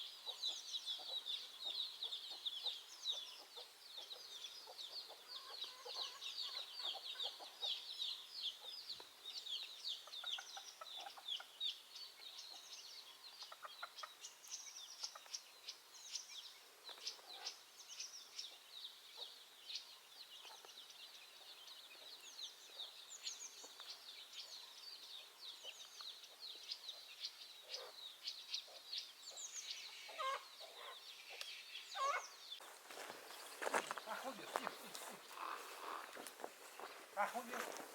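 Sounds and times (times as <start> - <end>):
low clucking bird calls: 0.0 - 37.9
small birds chirping: 0.0 - 37.9.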